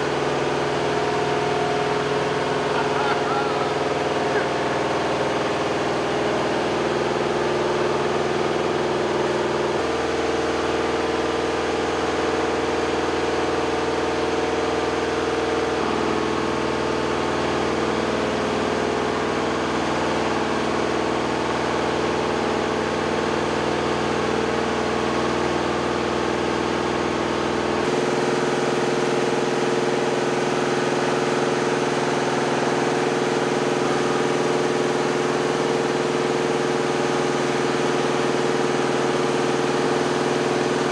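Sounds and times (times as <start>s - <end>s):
machine hum: 0.0s - 40.9s.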